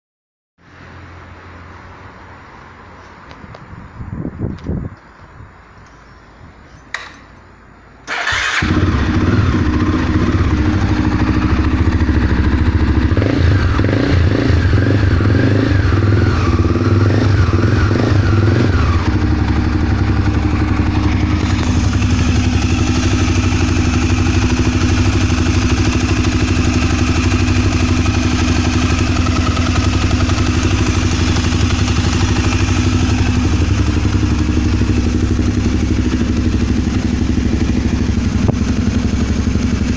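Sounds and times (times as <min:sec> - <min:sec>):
motorcycle engine starting and idling: 0:06.9 - 0:39.9.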